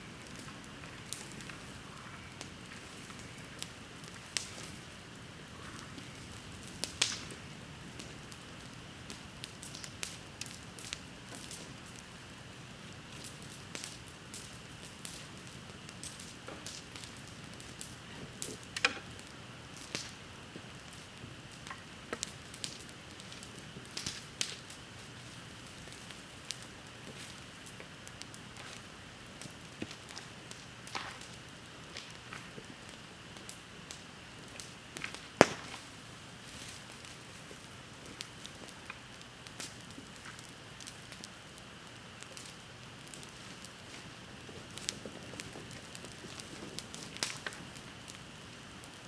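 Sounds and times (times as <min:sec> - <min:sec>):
bonfire crackling and popping: 0:00.0 - 0:49.0
low steady fire hiss: 0:00.0 - 0:49.0.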